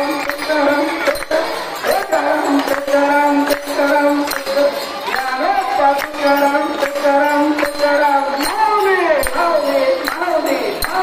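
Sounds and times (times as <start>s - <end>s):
group singing a chant: 0.0s - 11.0s
sharp rhythmic strikes: 0.0s - 11.0s.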